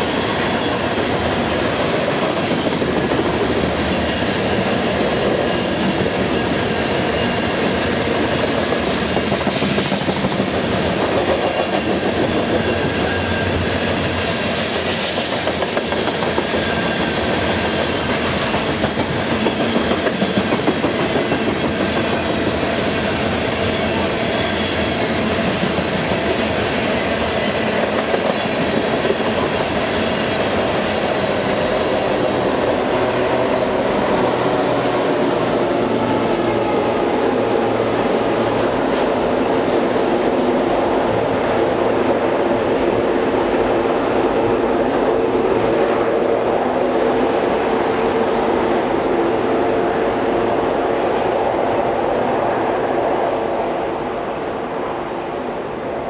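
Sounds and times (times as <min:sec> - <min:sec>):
diesel locomotive engines droning: 0:00.0 - 0:56.0
train wheels on rails: 0:00.0 - 0:56.0.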